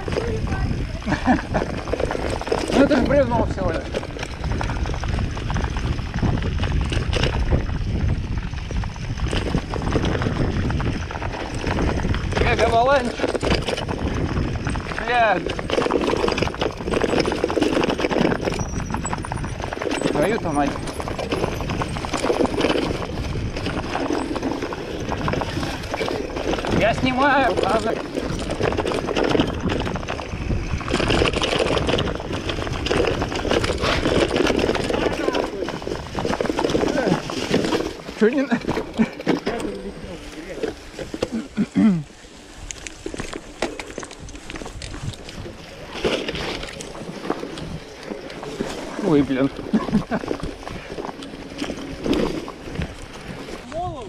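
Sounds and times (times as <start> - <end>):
bicycle rattling and knocking: 0.0 - 54.0
tyres rumbling: 0.0 - 54.0
wind on microphone: 0.0 - 54.0.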